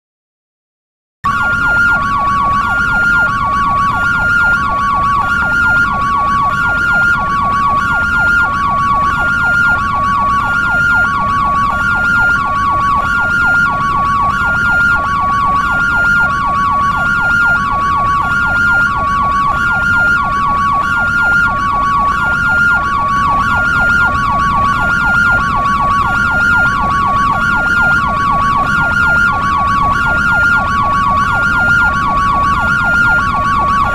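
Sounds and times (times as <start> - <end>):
ambulance siren two-tone: 1.2 - 33.9
siren yelp warbling: 1.3 - 33.9.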